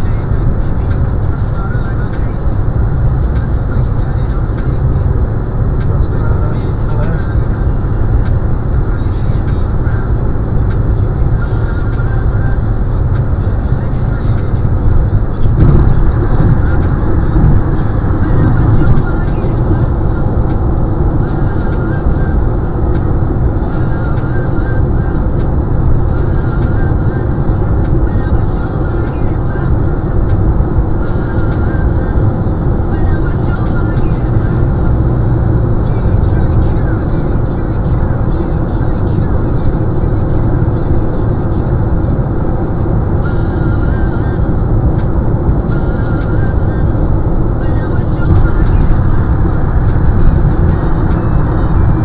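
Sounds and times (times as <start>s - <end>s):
road and tyre noise in car: 0.0s - 52.0s.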